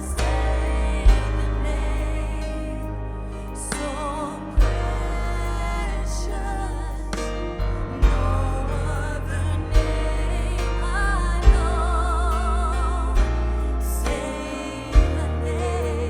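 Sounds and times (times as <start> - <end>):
person singing with vibrato: 0.0 - 16.0
worship band playing: 0.0 - 16.0.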